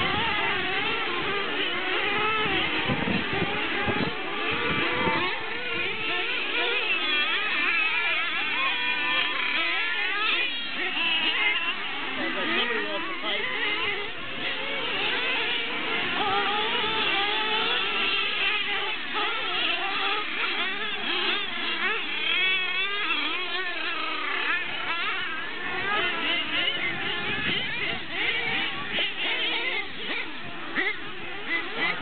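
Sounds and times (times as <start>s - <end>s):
radio-controlled truck motors revving: 0.0s - 32.0s.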